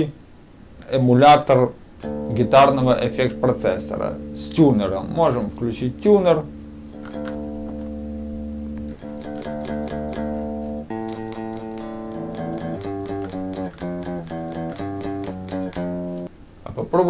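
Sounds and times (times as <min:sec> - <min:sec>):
electric guitar strings plucked: 0:02.0 - 0:16.3.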